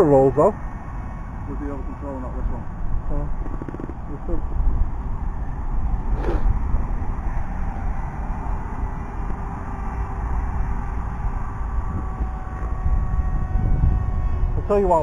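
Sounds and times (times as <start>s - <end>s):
drone motor whine: 0.0s - 15.0s
wind rumbling on microphone: 0.6s - 15.0s.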